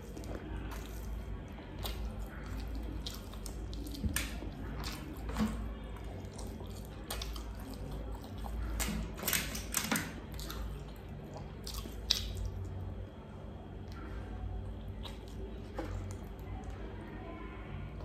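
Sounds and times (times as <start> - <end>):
wet chewing and lip smacking: 0.0 - 13.0, 13.8 - 16.8.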